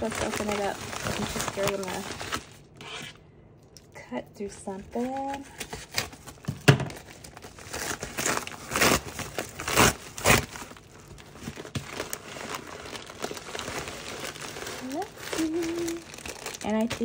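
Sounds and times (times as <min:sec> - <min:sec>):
package wrapping crinkling and tearing: 0:00.0 - 0:03.2, 0:04.7 - 0:17.0.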